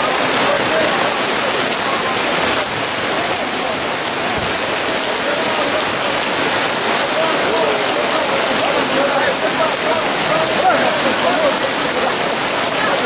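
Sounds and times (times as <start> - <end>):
heavy rain on tent canopy: 0.0 - 13.0.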